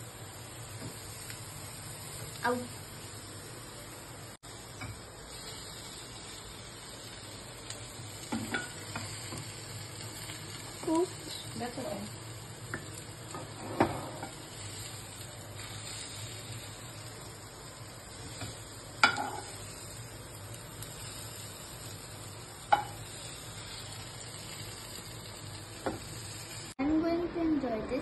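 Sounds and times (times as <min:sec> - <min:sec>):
vegetables sizzling in a frying pan: 0:00.0 - 0:28.0.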